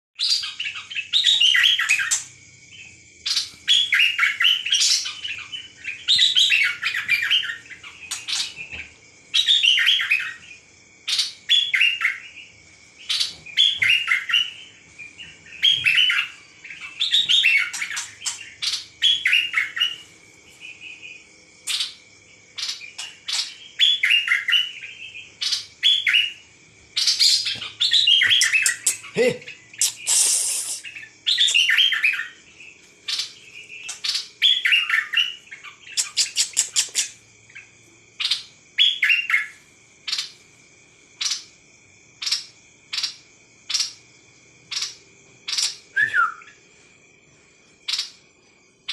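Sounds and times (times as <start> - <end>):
songbird rapid chirping: 0.2 - 48.9.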